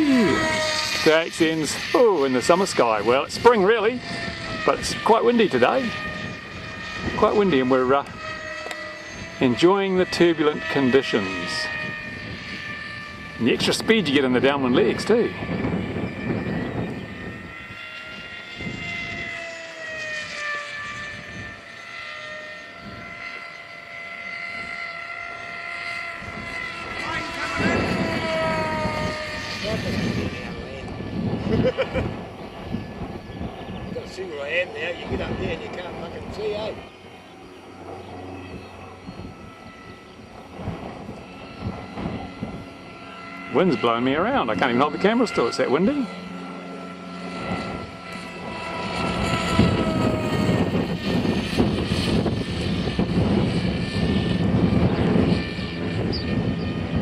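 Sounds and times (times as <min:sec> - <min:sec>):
model plane propeller whine: 0:00.0 - 0:57.0
wind rumbling on microphone: 0:00.0 - 0:57.0.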